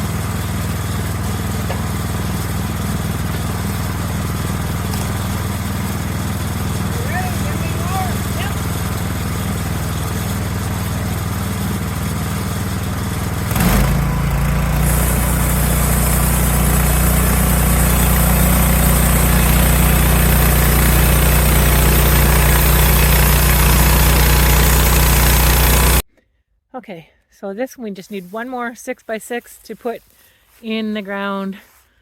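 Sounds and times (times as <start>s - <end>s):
engine running: 0.0s - 26.1s.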